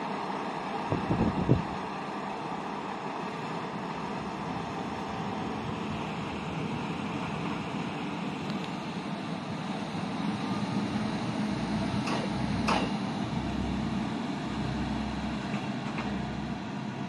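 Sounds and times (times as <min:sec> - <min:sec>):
diesel railcar engine humming: 0:00.0 - 0:17.0.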